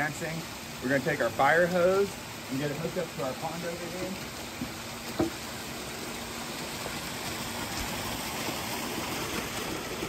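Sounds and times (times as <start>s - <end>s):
stream running over rocks: 0.0s - 10.0s.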